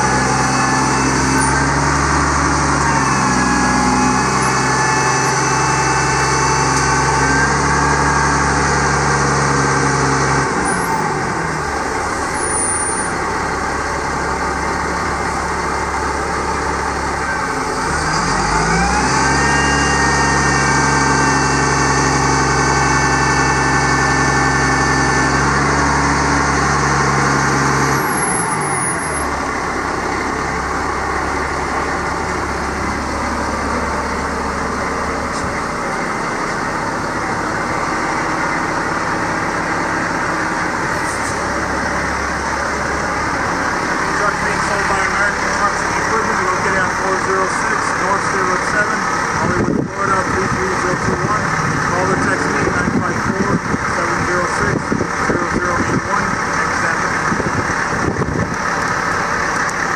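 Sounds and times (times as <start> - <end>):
diesel truck engine running: 0.0 - 59.9
hydraulic whine: 0.0 - 59.9.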